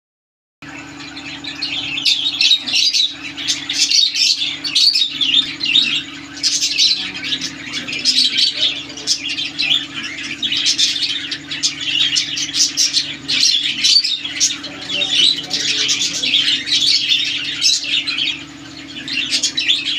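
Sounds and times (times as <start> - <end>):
lovebirds chirping: 0.6 - 19.9
steady low hum: 0.6 - 19.9.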